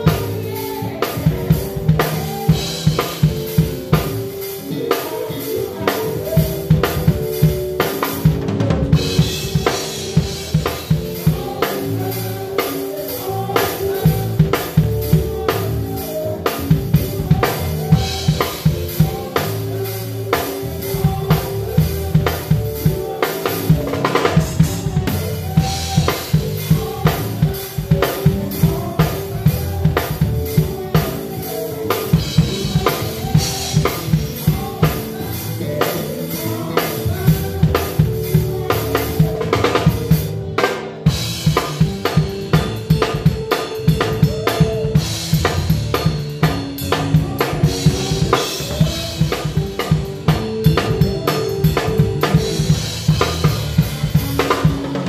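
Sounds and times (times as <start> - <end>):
drum kit played hard: 0.0 - 55.0.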